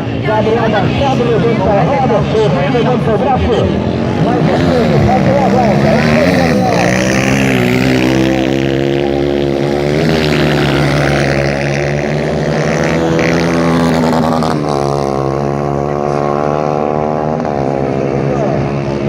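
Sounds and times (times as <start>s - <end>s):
racing motorcycle engines running: 0.0s - 19.0s.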